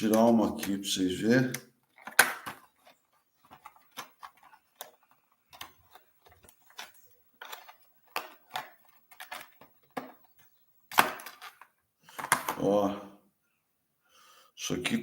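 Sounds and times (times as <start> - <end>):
plastic packaging clicks and crinkles: 0.0 - 12.7.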